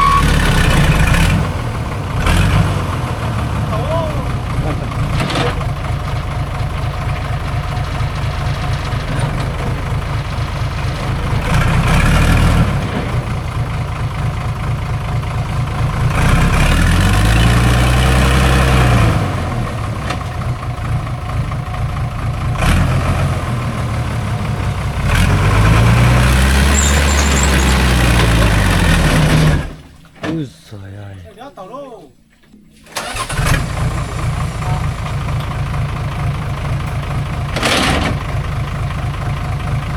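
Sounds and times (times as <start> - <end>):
truck engine revving: 0.0 - 29.8, 32.9 - 39.9.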